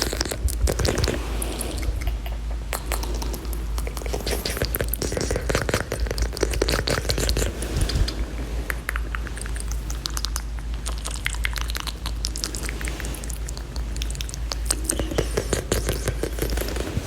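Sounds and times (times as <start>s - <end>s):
mouth clicks and smacks: 0.0s - 17.0s.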